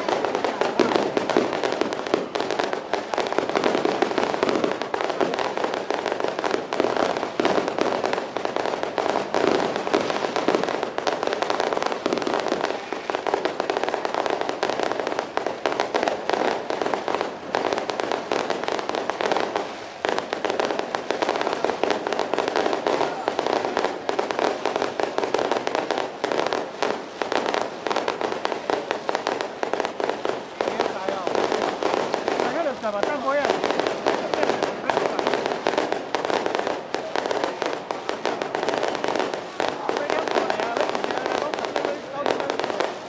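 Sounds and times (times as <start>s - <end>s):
firecrackers rapid cracks: 0.0s - 43.0s.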